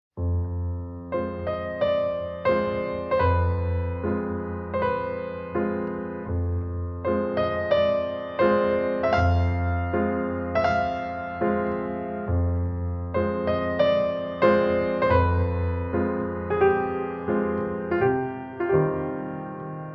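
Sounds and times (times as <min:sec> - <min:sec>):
slow keyboard melody: 0:00.2 - 0:19.9.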